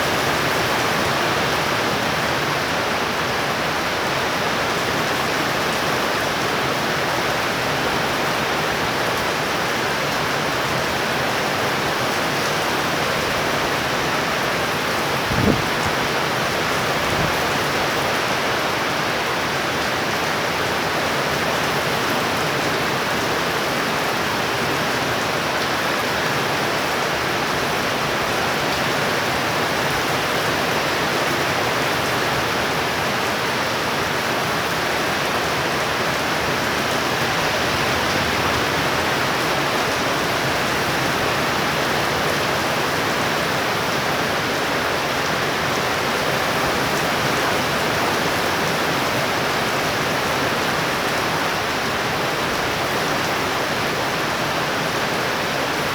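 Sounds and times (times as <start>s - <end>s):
heavy rain downpour: 0.0s - 55.9s.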